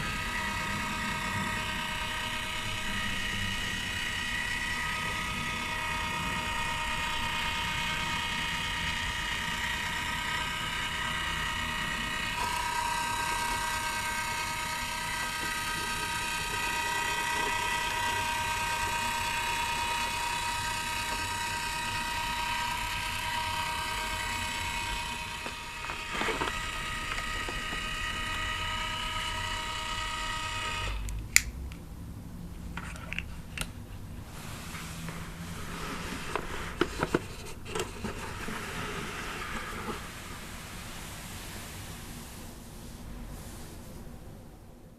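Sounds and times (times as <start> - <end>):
small electric motor whine: 0.0 - 31.2, 34.3 - 42.1.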